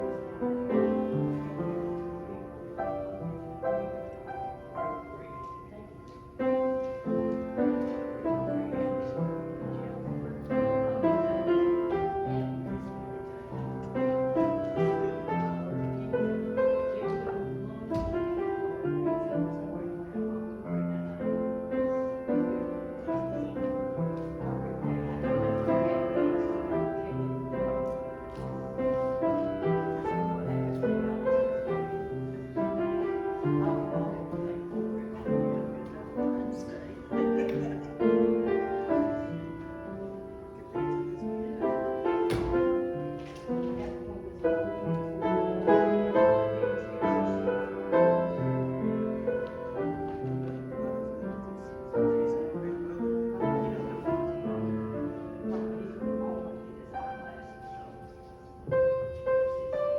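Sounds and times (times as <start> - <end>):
piano playing worship song: 0.0 - 59.9.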